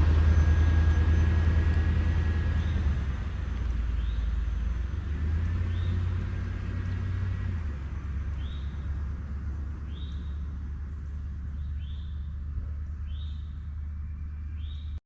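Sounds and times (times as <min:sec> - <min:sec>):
van engine humming: 0:00.0 - 0:15.0.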